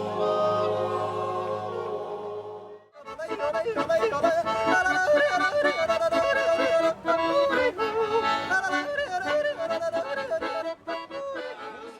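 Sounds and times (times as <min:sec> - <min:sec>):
accordion chords: 0:00.0 - 0:11.9.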